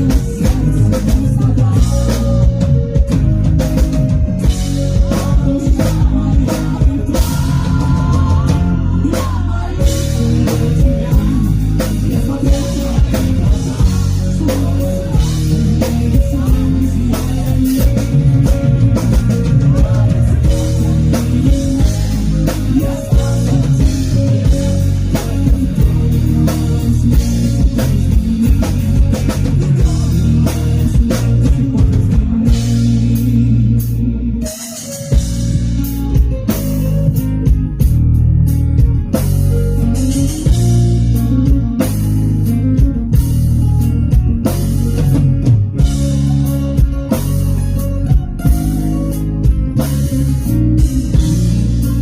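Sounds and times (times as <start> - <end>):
drum kit beating: 0.0 - 52.0
live rock band playing: 0.0 - 52.0.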